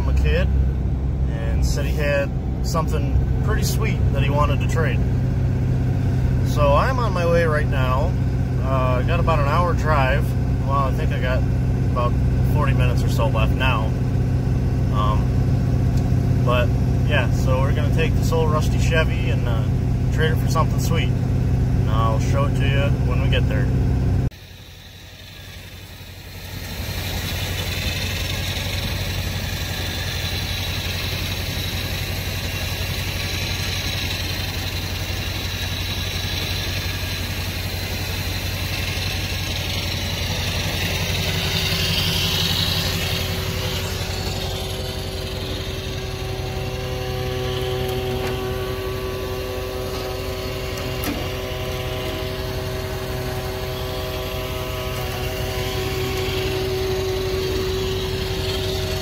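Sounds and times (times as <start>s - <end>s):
steady high whine: 0.0s - 59.0s
vehicle engine idling: 0.0s - 59.0s.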